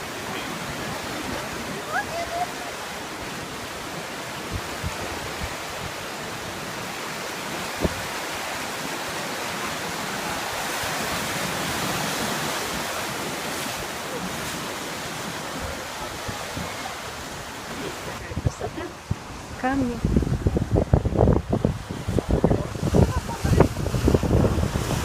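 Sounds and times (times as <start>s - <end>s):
ocean waves washing ashore: 0.0s - 25.0s.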